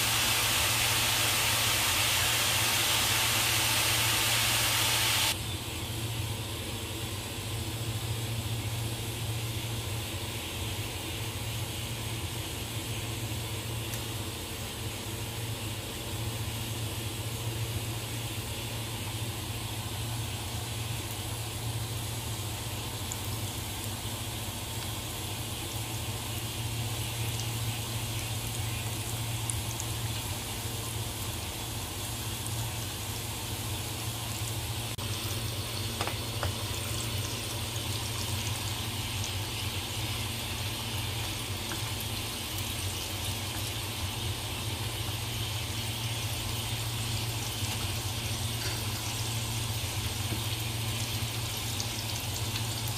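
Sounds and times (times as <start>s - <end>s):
chicken deep-frying in oil: 0.0s - 52.9s.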